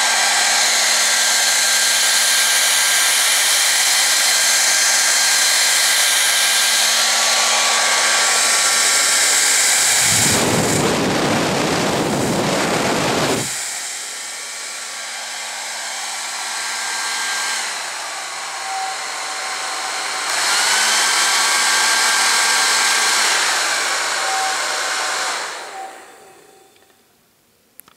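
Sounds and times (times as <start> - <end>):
hair dryer blowing: 0.0 - 26.9.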